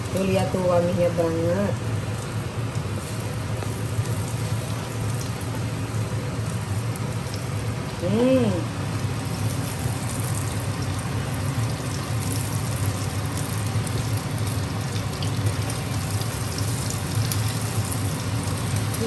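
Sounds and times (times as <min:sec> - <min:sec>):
omelette sizzling in oil: 0:00.0 - 0:19.0.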